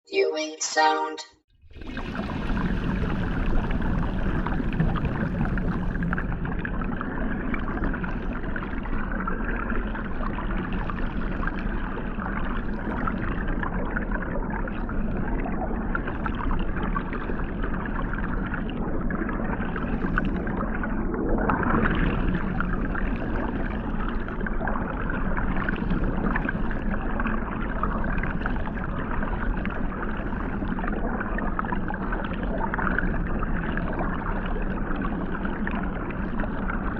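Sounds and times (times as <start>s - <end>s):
water jets rushing underwater: 1.6s - 36.9s.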